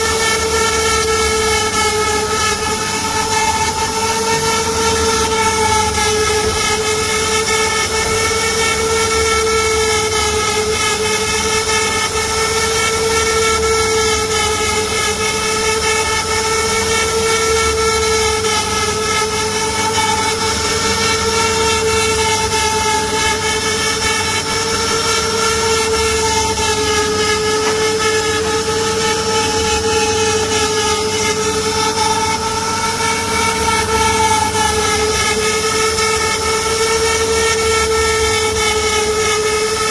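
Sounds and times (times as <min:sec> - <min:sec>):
router motors high whine: 0:00.0 - 0:39.9.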